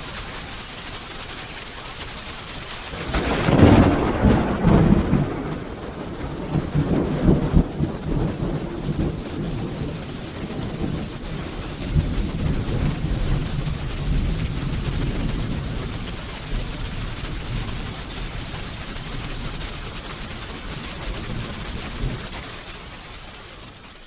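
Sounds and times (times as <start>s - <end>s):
steady rain falling: 0.0s - 24.0s
rolling thunder: 2.9s - 22.4s.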